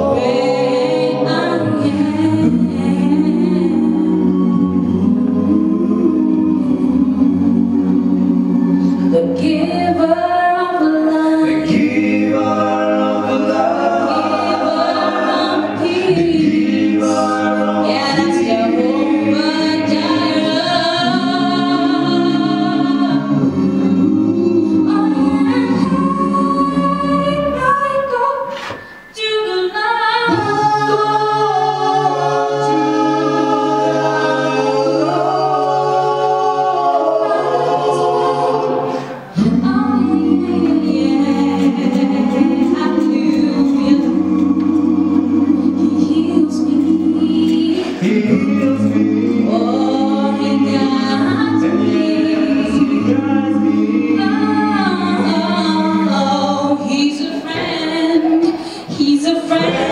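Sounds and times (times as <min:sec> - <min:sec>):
group singing a cappella harmony: 0:00.0 - 0:59.9.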